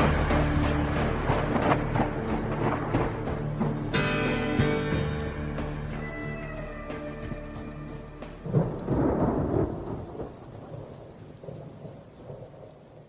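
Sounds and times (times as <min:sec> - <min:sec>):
music: 0:00.0 - 0:10.8
rain falling: 0:00.0 - 0:13.0
thunder rumbling: 0:00.0 - 0:13.0.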